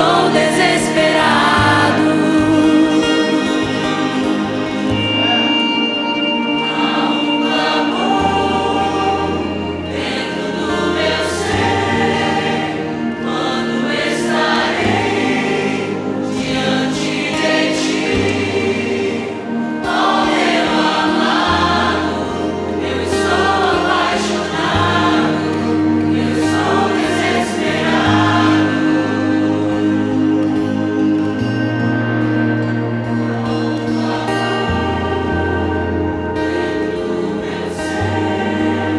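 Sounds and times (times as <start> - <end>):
choir singing: 0.0 - 38.9
worship band playing: 0.0 - 38.9.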